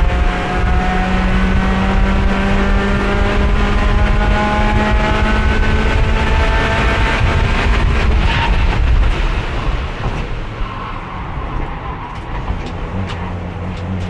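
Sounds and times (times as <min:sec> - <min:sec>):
heavy wind: 0:00.0 - 0:14.0
road rumble: 0:00.0 - 0:14.0.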